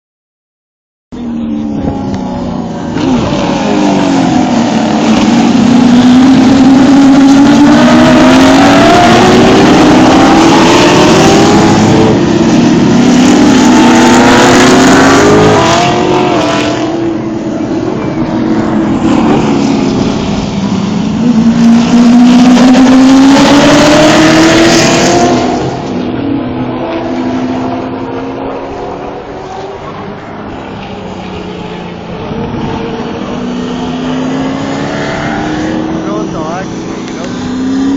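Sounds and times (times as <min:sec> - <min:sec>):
race car engines accelerating: 0:01.2 - 0:37.9.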